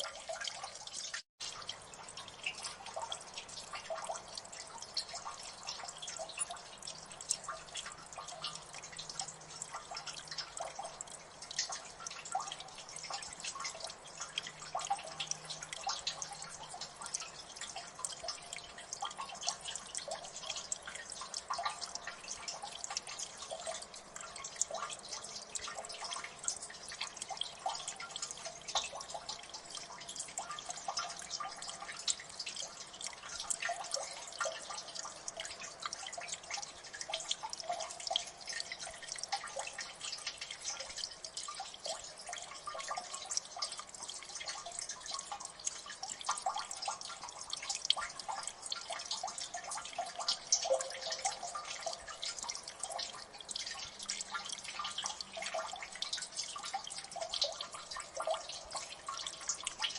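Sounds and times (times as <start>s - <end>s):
faint hiss of water: 0.0s - 59.9s
water dripping: 0.0s - 59.9s.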